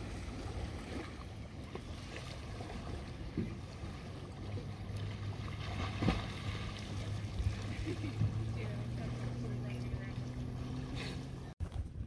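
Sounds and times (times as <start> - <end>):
small waves lapping: 0.0 - 11.9.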